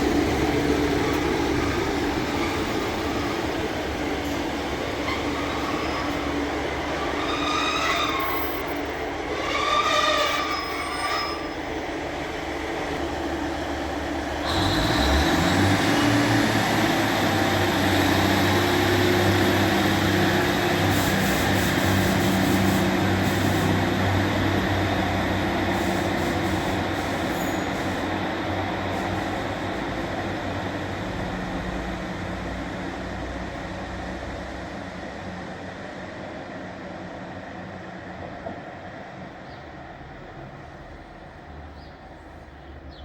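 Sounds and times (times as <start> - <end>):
wheel and rail noise: 0.0 - 43.0.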